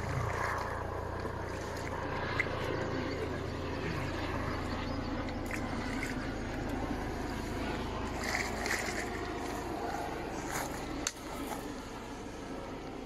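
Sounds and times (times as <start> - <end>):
water sloshing in a net: 0.0 - 3.4, 4.0 - 11.8.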